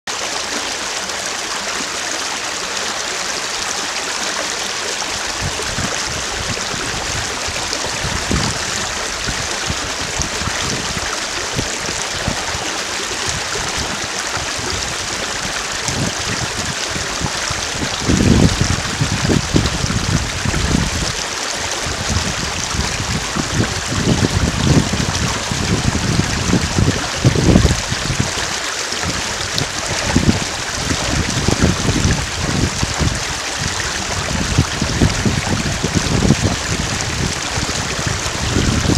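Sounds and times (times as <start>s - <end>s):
wind gusts buffeting microphone: 5.2s - 38.9s
wind rushing over grass: 5.3s - 38.9s.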